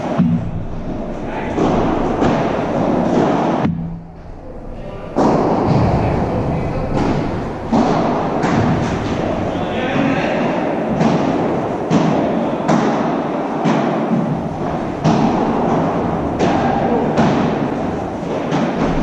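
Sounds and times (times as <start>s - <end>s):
padel ball hits echoing: 0.0s - 19.0s.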